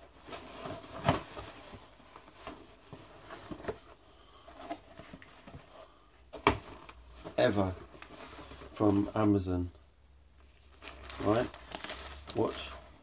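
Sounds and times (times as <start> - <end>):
paper and cardboard rustling: 0.0 - 9.4, 10.7 - 13.0.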